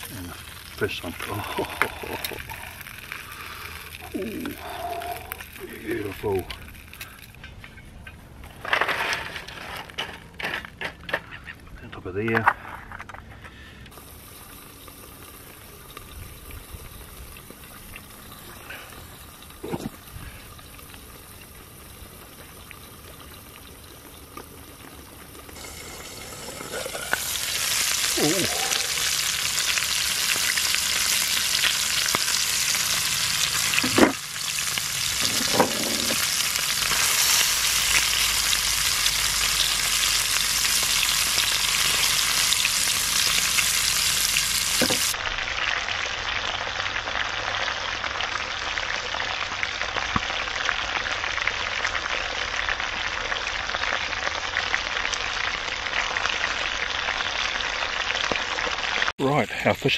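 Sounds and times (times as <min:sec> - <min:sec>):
fish sizzling in a pot: 0:00.0 - 0:07.2, 0:13.9 - 0:59.1.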